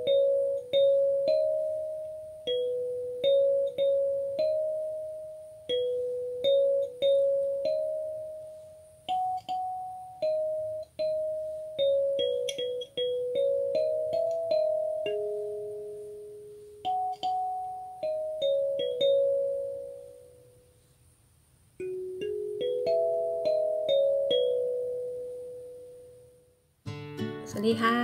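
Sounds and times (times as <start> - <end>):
kalimba melody: 0.0 - 20.5, 21.8 - 26.4.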